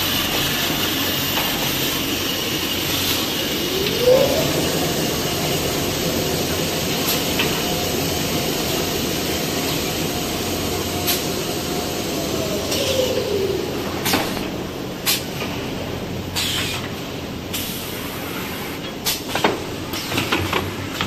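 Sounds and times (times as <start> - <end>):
machinery humming with whine: 0.0 - 18.7.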